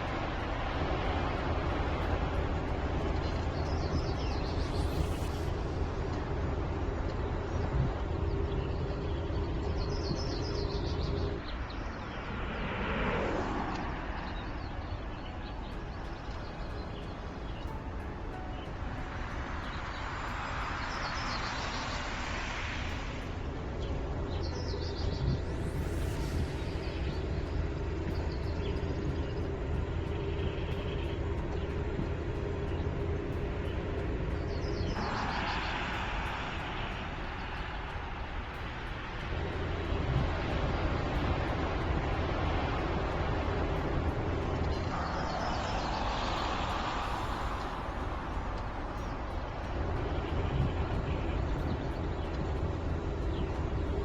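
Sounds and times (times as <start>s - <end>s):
hissing swell: 0.0s - 54.0s
low road rumble: 0.0s - 54.0s
van passing with tyre noise: 0.0s - 54.0s.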